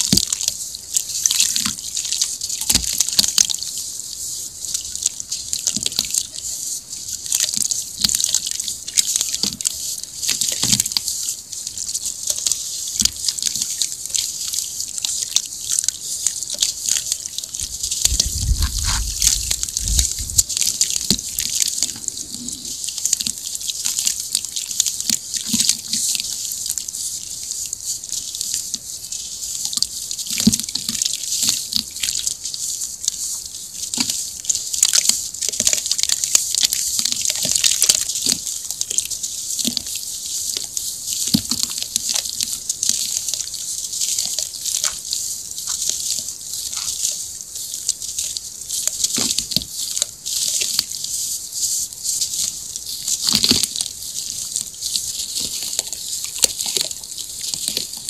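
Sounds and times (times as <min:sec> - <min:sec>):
sand pattering onto water: 0:00.0 - 0:58.0.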